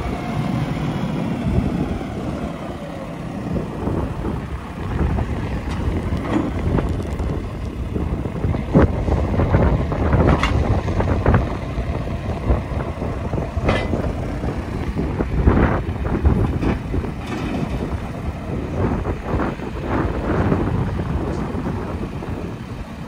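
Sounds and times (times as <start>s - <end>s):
diesel engine running: 0.0s - 23.0s
hydraulics whining: 0.0s - 23.0s.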